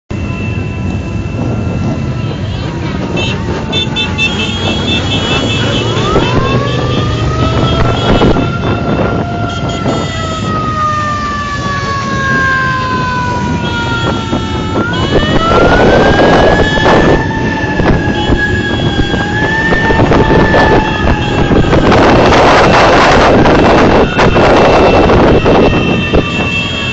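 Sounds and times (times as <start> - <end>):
vehicle engines and road noise: 0.1 - 26.9.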